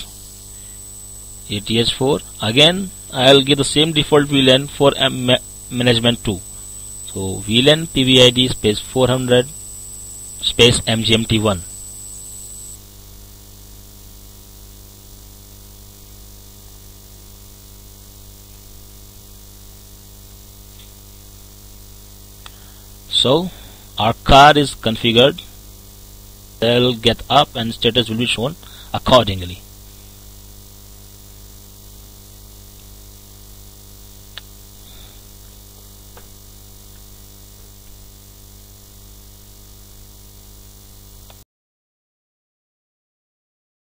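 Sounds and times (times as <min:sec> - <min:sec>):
electrical hum and hiss: 0:00.0 - 0:41.4
thin high whine: 0:00.0 - 0:41.4.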